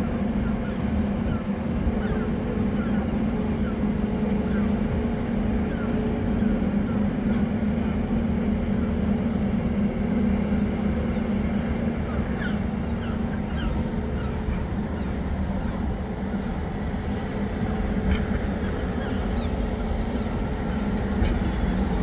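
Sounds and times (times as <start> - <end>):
large vehicle engine drone: 0.0 - 22.0.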